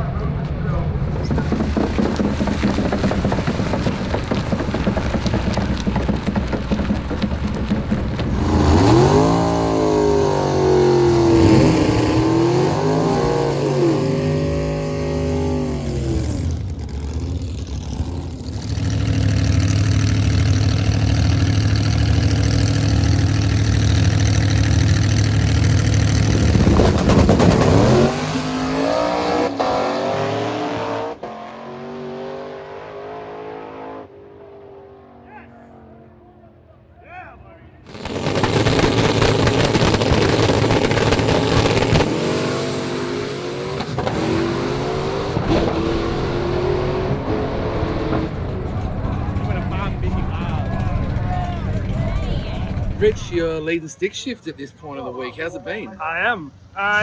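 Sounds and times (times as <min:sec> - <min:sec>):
race car engines revving: 0:00.9 - 0:35.0, 0:37.9 - 0:53.6.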